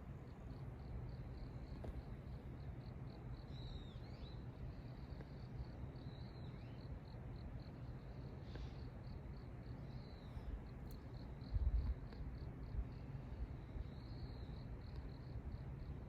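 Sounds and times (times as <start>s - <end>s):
insect chirping: 0.0s - 16.0s
low background hum: 0.0s - 16.0s.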